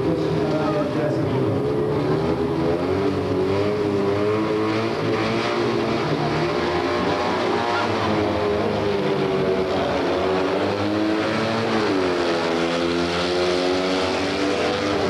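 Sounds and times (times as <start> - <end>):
small race car engines revving: 0.0 - 15.0.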